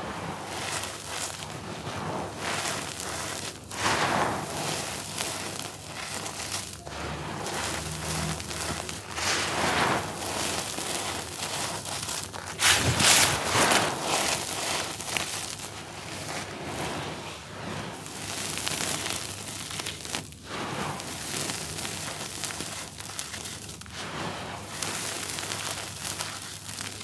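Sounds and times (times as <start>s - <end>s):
crumbled charcoal gritty crackling: 0.0s - 27.0s.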